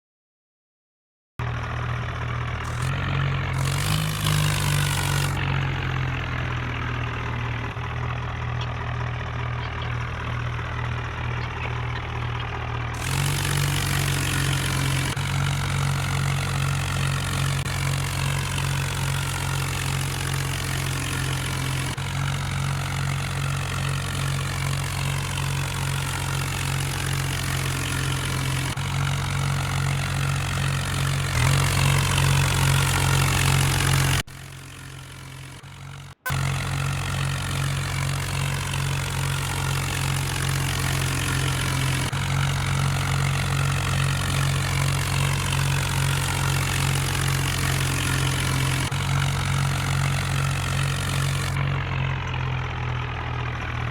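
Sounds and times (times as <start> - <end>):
tractor diesel engine running: 1.4 - 53.9.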